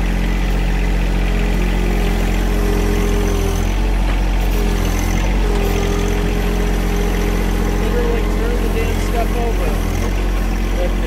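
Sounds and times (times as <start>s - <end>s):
tractor diesel engine running: 0.0s - 11.0s
whining tone: 0.0s - 11.0s.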